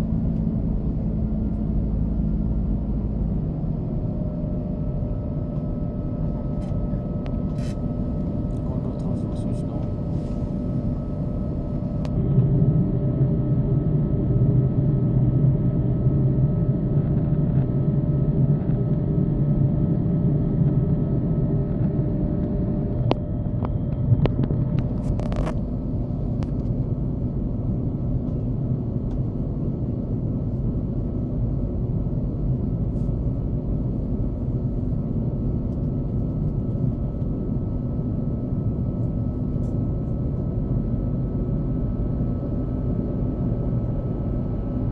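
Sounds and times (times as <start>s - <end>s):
constant hum: 0.0s - 44.9s
engine and airflow rumble: 0.0s - 44.9s.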